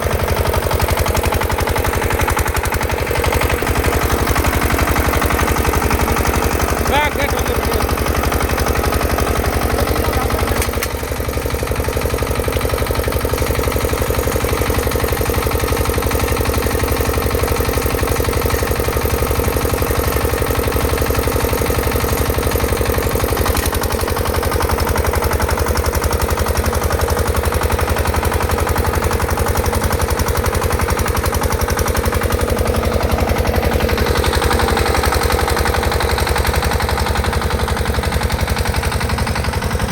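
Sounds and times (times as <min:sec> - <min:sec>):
single-cylinder diesel engine running: 0:00.0 - 0:39.9.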